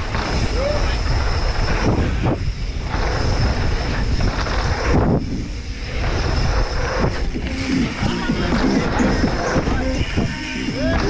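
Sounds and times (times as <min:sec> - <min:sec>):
bike tyre rumble on dirt: 0:00.0 - 0:11.0
wind buffeting microphone: 0:00.0 - 0:11.0.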